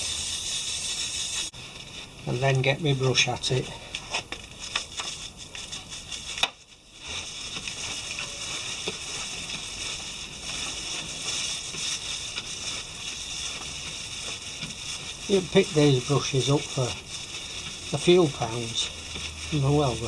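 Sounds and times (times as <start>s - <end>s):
brush scrubbing a chain: 0.0s - 20.0s.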